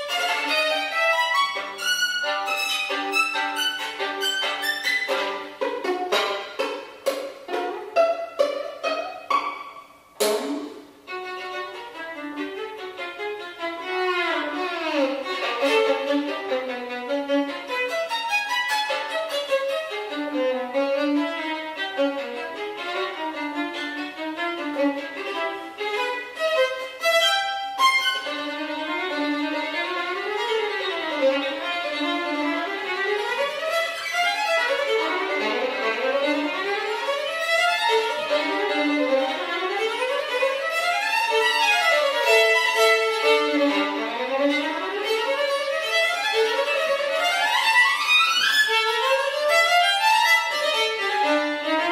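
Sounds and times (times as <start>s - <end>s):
solo violin playing: 0.0s - 51.9s.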